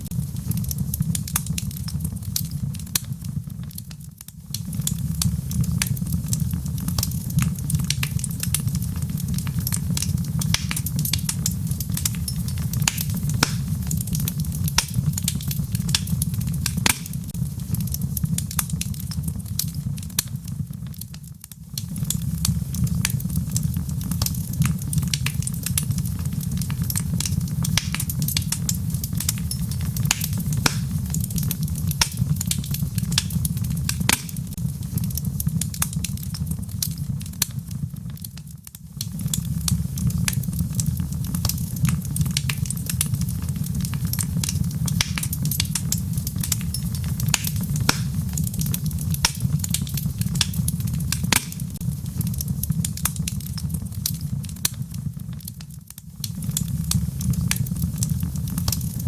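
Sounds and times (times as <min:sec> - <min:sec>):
burning wood crackling and popping: 0:00.0 - 0:59.0
fire rumbling: 0:00.0 - 0:59.0.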